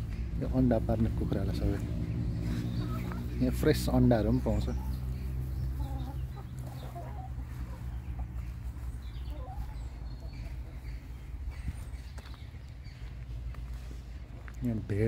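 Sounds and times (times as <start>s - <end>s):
steady low rumble: 0.0s - 14.9s
hens clucking: 0.0s - 15.0s.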